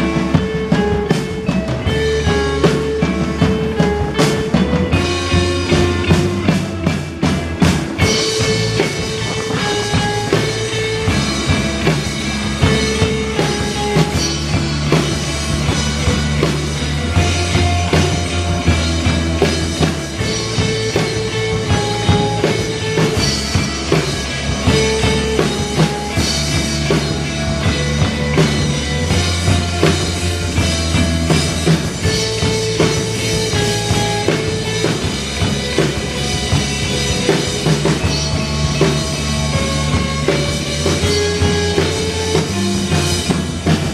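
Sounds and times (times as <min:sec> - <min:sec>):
bass line: 0:00.0 - 0:43.9
drum kit steady beat: 0:00.0 - 0:43.9
electric guitars: 0:00.0 - 0:43.9.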